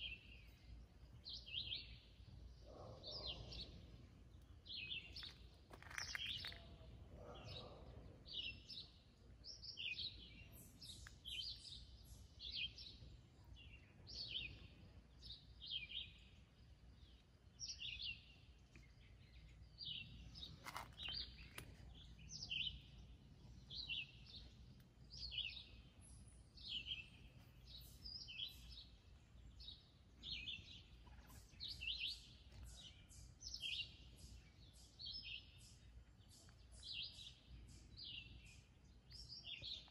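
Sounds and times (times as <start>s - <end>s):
birds chirping: 0.0s - 39.9s
faint low outdoor hum: 0.0s - 39.9s.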